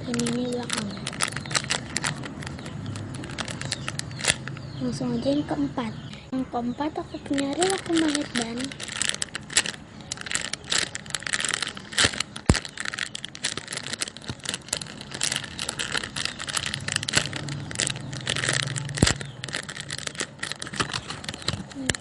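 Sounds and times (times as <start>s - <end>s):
foam toy being squeezed: 0.1s - 4.6s, 7.6s - 22.0s.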